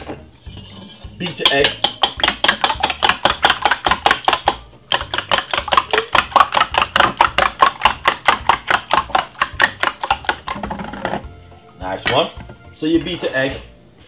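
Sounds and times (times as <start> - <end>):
spoon beating eggs in metal bowl: 0.4 - 12.5.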